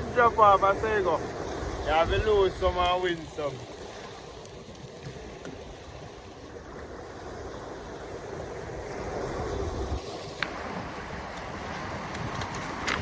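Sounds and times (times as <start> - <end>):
water washing: 0.0 - 13.0
wind: 0.0 - 13.0.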